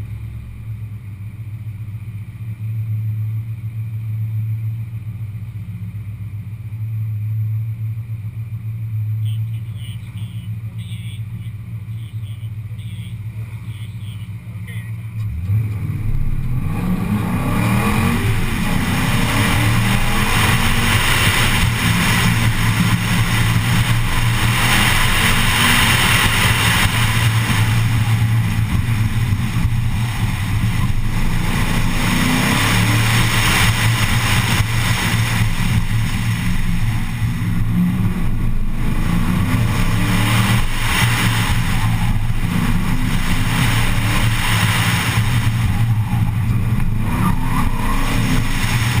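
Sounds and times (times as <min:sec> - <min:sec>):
car engine revving hard: 0:09.3 - 0:49.0.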